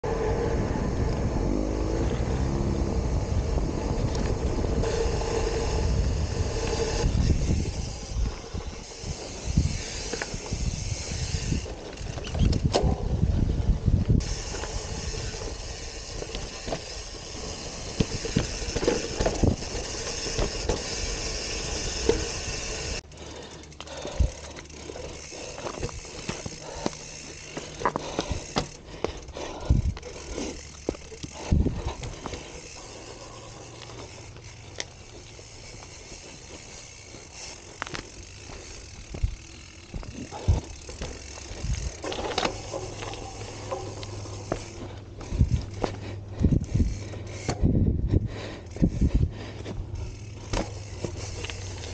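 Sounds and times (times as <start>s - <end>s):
bike tyre rolling noise: 0.0s - 51.9s
bike rattling and knocking: 2.0s - 51.9s.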